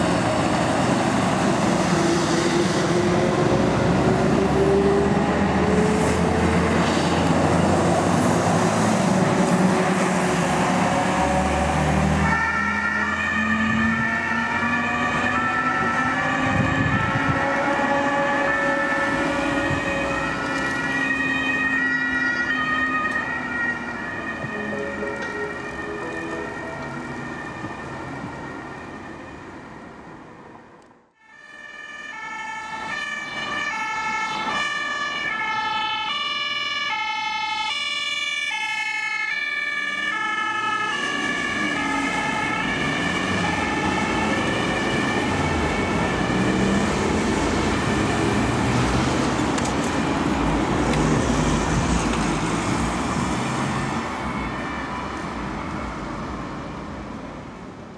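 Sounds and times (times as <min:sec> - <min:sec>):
road traffic noise: 0:00.0 - 0:57.9
two-tone emergency siren: 0:07.5 - 0:30.3, 0:31.2 - 0:50.4, 0:51.4 - 0:56.8.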